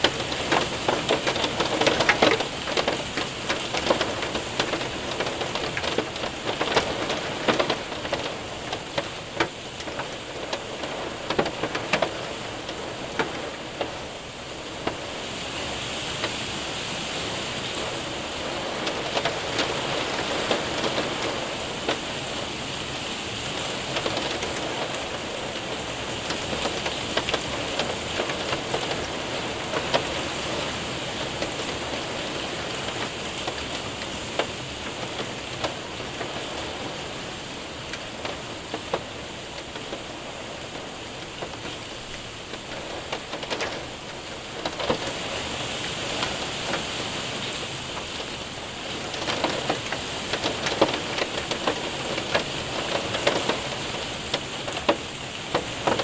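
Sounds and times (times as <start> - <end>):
hailstones striking a window: 0.0 - 14.0, 17.8 - 22.2, 23.6 - 56.0
steady rain: 0.0 - 56.0.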